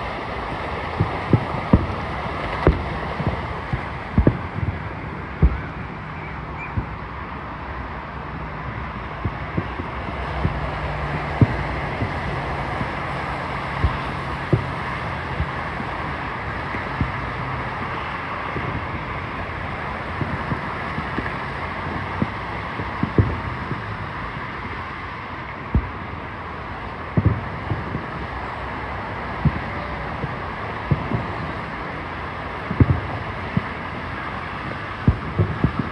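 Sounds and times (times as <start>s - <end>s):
distant fireworks thuds: 0.0s - 35.9s
rushing background noise: 0.0s - 35.9s.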